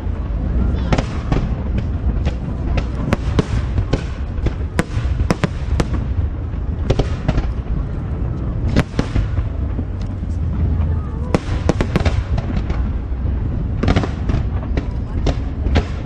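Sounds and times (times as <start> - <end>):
continuous low rumble: 0.0 - 16.0
fireworks bangs and crackles: 0.0 - 16.0.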